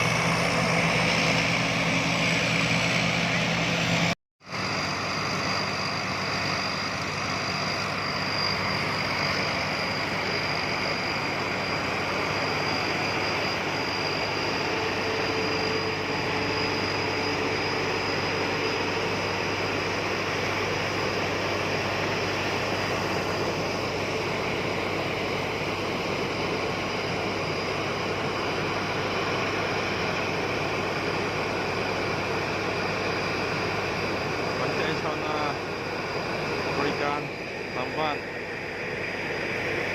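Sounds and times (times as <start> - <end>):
combine harvester engine drone: 0.0 - 39.9
thin high whine: 0.0 - 39.9.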